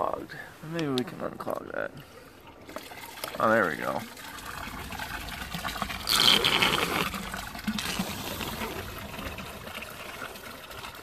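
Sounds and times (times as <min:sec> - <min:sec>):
water gushing: 0:00.0 - 0:11.0
water trickling and gurgling in drain: 0:00.0 - 0:11.0.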